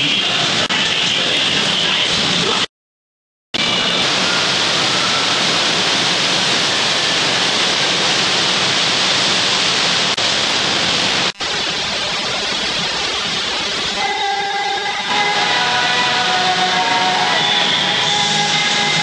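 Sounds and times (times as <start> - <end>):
rushing water: 0.0 - 2.7, 3.6 - 19.0.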